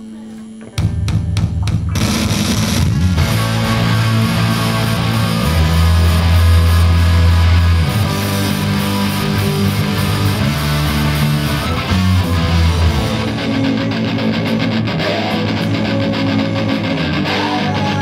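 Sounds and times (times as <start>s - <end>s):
bass guitar held low notes: 0.6s - 18.0s
live rock band playing: 0.7s - 18.0s.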